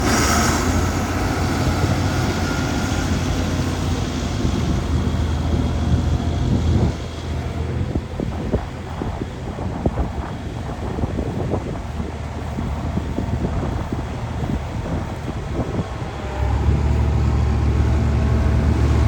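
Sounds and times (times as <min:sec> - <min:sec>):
tractor engine humming: 0:00.0 - 0:19.0
wind noise: 0:00.0 - 0:19.0.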